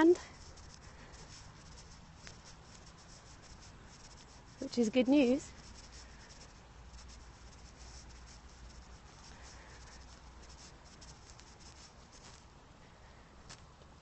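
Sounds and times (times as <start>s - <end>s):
phone rubbing and scratching: 0.0s - 12.4s.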